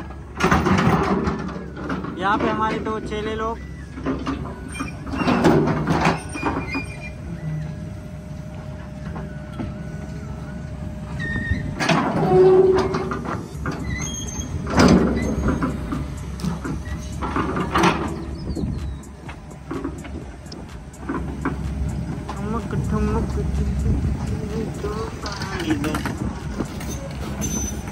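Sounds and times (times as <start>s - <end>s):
excavator diesel engine: 0.0s - 27.9s
hydraulic whine: 0.0s - 27.9s.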